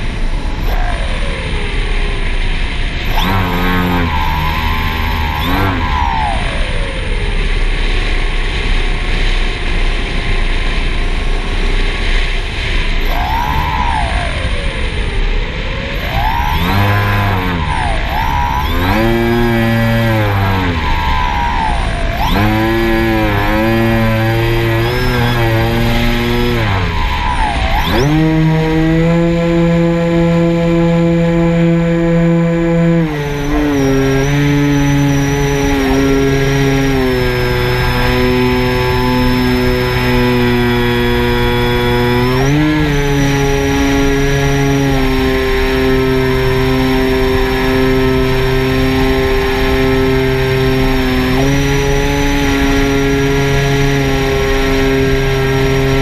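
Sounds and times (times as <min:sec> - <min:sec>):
drone propellers humming: 0:00.0 - 0:56.0
motor whine: 0:00.0 - 0:56.0
steady rushing noise: 0:00.0 - 0:56.0.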